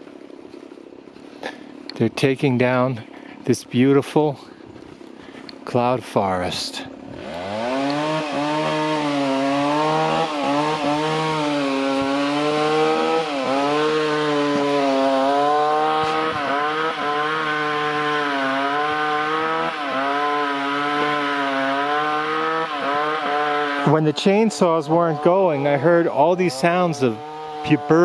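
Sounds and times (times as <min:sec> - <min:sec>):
chainsaw cutting: 0:00.0 - 0:28.0.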